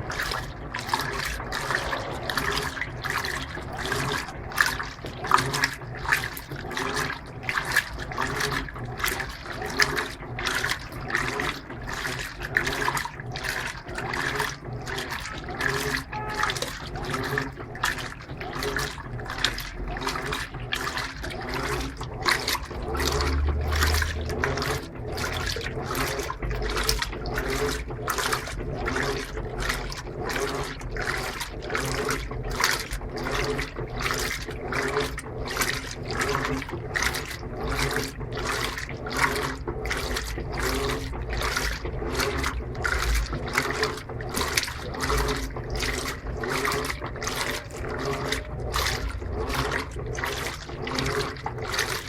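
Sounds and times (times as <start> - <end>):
low motor hum: 0.0 - 52.0
washing machine sloshing water: 0.0 - 52.0.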